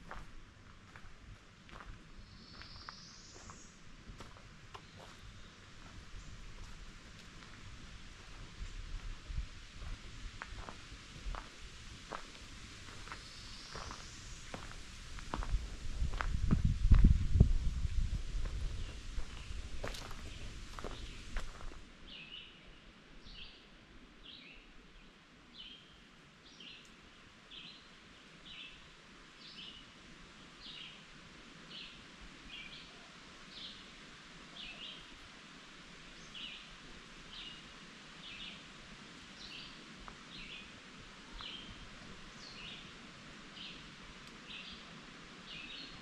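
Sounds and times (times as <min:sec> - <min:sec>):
faint outdoor hiss: 0:00.0 - 0:46.0.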